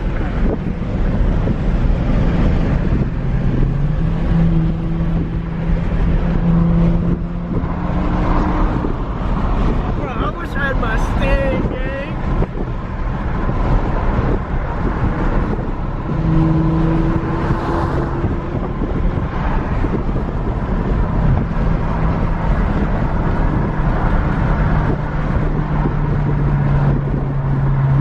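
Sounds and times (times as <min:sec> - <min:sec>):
car engine drone: 0:00.0 - 0:28.0
road rumble: 0:00.0 - 0:28.0.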